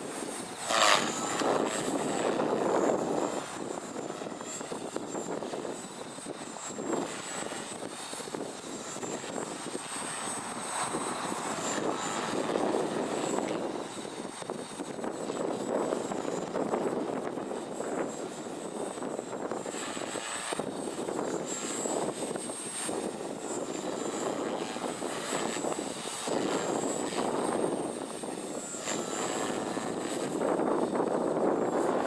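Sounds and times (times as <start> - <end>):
high motor whine: 0.0 - 32.0
rotor blades rushing: 0.0 - 32.0.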